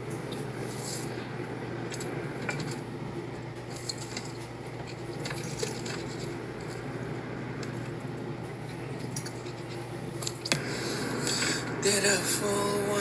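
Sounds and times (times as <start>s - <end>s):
brake rotors clicking and scraping: 0.0s - 12.6s
low running hum: 0.0s - 13.0s.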